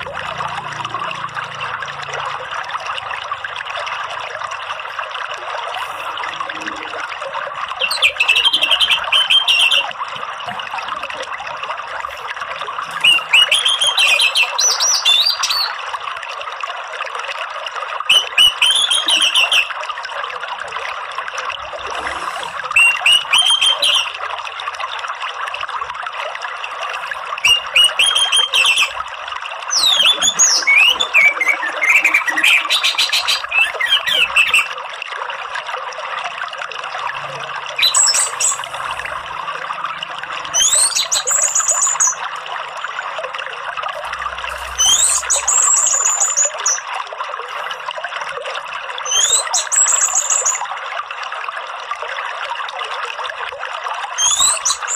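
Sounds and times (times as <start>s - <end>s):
running water hiss: 0.0s - 16.6s, 19.2s - 35.6s, 36.3s - 50.6s.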